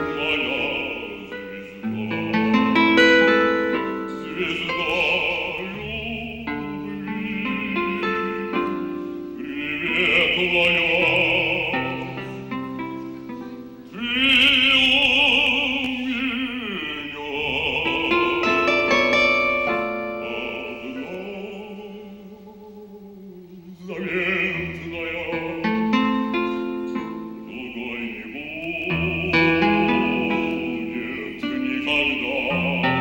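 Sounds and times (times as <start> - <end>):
instrumental accompaniment: 0.0 - 33.0
man singing with vibrato: 0.0 - 33.0.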